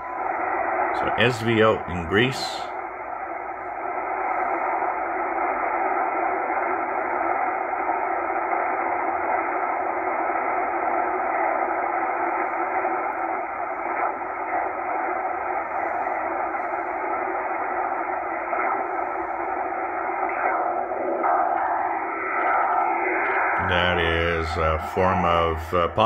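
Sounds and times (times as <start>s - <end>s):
shortwave radio static hiss: 0.0s - 26.0s.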